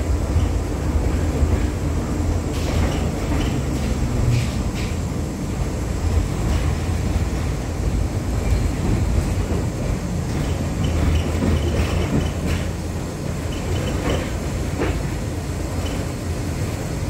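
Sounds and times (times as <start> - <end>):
tram wheels rumbling: 0.0 - 17.0.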